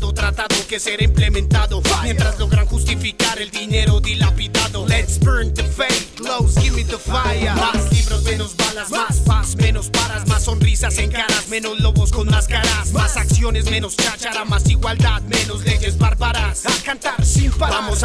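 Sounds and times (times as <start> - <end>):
rapping over a bass beat: 0.0 - 18.0.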